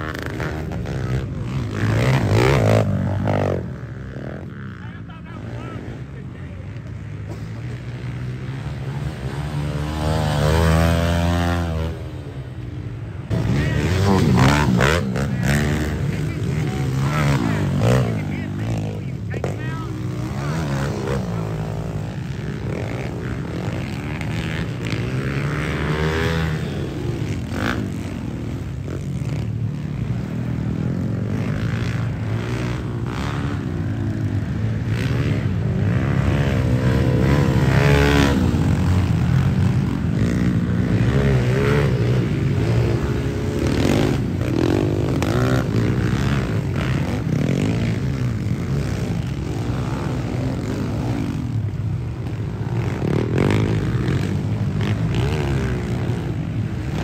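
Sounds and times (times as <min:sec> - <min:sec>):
pit bike engines racing: 0:00.0 - 0:57.0.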